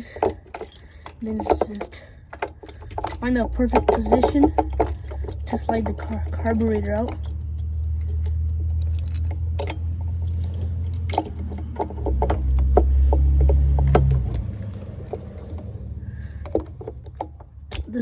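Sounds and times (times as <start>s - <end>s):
light clicks and knocks: 0.0s - 18.0s.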